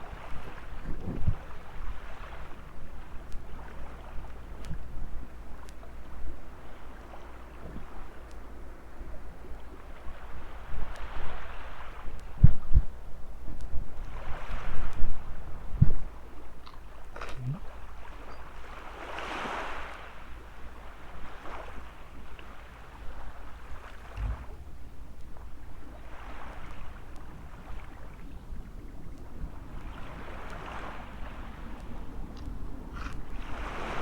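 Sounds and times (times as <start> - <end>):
small waves washing onto sand: 0.0 - 34.0
wind rumbling on microphone: 0.0 - 34.0.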